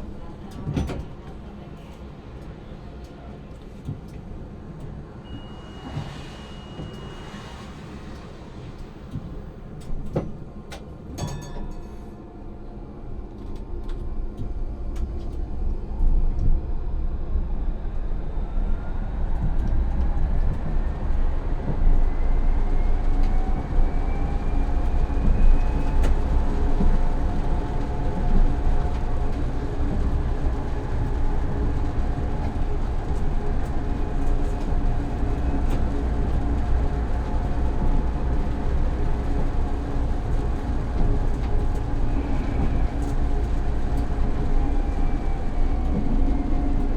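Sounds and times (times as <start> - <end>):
wheels rumbling on rails: 0.0 - 46.9.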